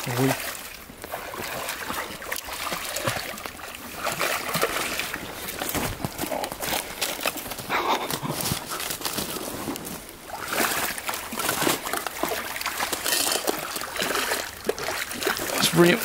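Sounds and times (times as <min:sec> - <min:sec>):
fish splashing in water: 0:00.0 - 0:09.4, 0:10.0 - 0:16.0
stream trickling: 0:00.0 - 0:16.0.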